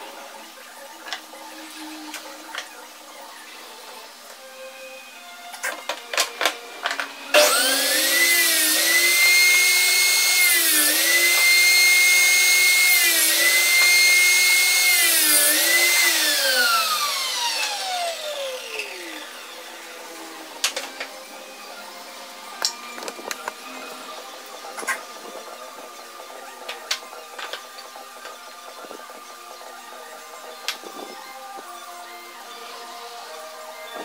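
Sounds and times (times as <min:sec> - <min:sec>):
table saw motor whine: 0:00.0 - 0:34.0.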